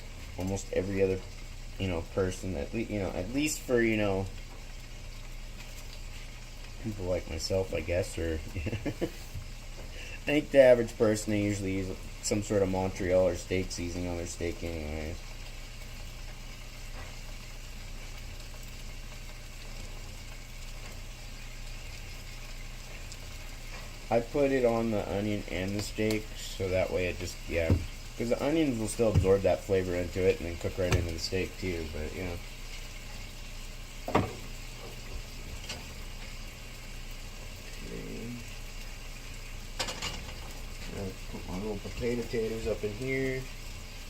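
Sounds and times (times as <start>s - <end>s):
steak sizzling: 0.0s - 44.0s.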